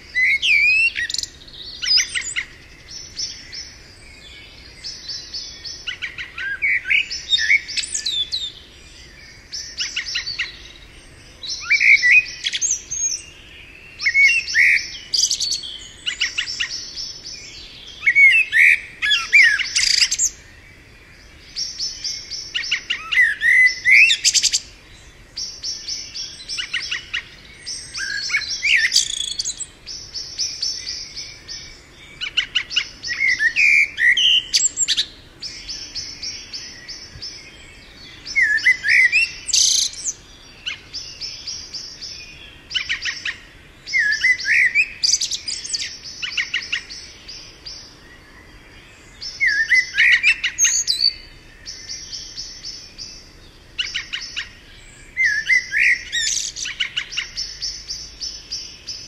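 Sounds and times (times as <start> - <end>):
birds singing: 0.0 - 59.0.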